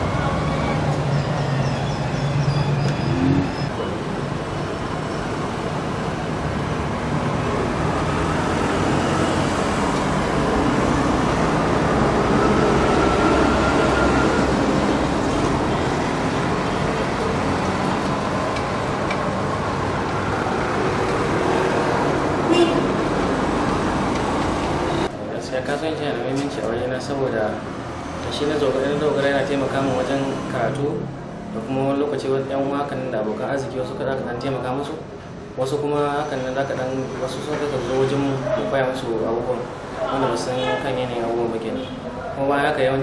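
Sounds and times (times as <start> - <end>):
road traffic: 0.0 - 43.0.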